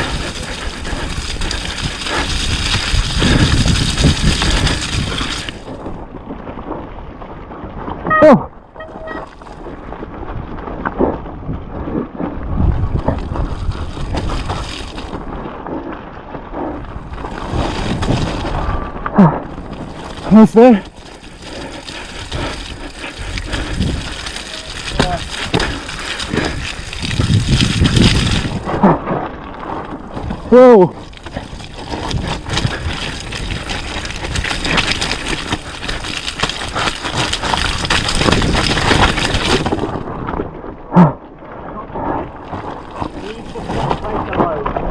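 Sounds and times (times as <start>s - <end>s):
wind buffeting microphone: 0.0s - 8.8s, 9.5s - 44.9s
mountain bike rattling over trail: 0.0s - 44.9s.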